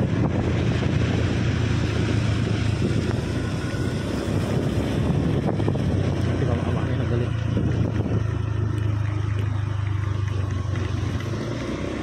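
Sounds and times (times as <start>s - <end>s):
motorcycle engine cruising: 0.0s - 12.0s
wind buffeting microphone: 0.0s - 12.0s.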